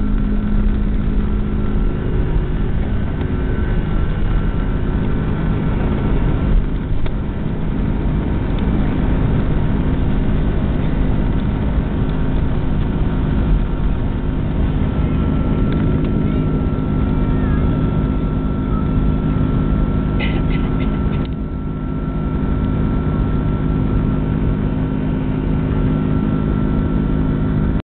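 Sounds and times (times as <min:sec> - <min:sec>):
high whine: 0:00.0 - 0:27.8
jet engines roaring: 0:00.0 - 0:27.8.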